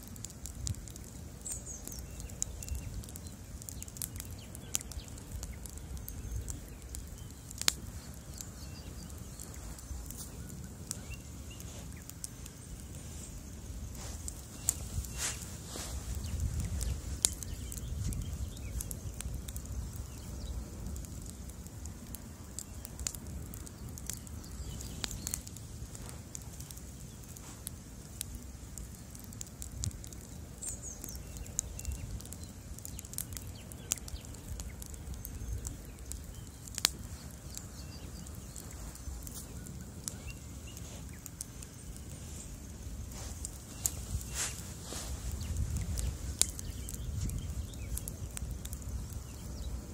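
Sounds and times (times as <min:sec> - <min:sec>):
fire crackling and popping: 0:00.0 - 0:49.9
flames rushing: 0:00.0 - 0:49.9.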